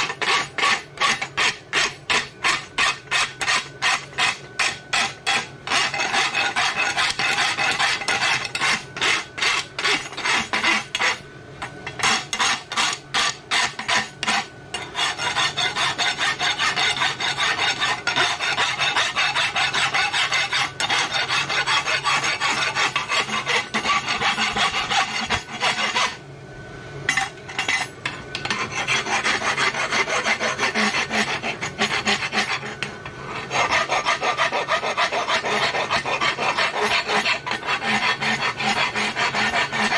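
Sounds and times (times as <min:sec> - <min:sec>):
file scraping metal: 0:00.0 - 0:26.2, 0:27.1 - 0:39.9.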